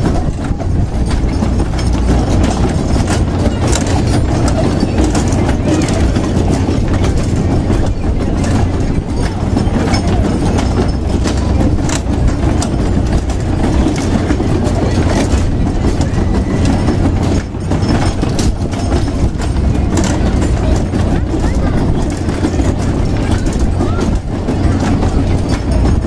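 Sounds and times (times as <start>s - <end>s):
carousel low rumble: 0.0s - 26.0s
ride rattles and clacks: 0.0s - 26.0s.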